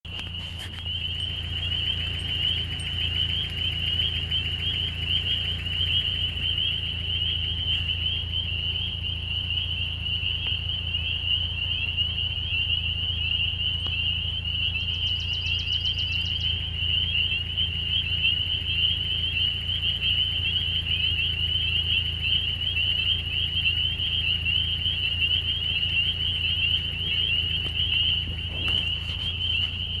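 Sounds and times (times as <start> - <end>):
low hum: 0.0 - 30.0
chorus of frogs peeping: 0.1 - 30.0.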